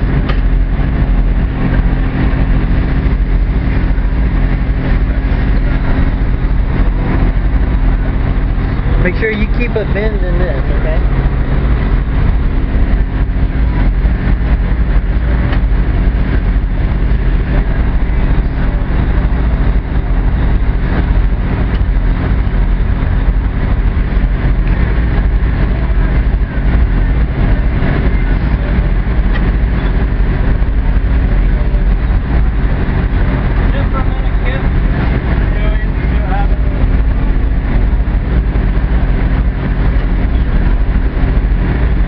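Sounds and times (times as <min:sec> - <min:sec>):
boat engine humming: 0:00.0 - 0:42.0
wind: 0:00.0 - 0:42.0.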